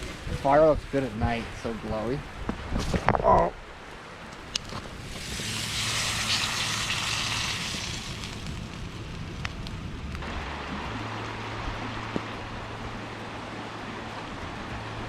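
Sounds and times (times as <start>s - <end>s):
campfire hissing: 0.0s - 15.0s
fire crackles: 0.0s - 15.0s.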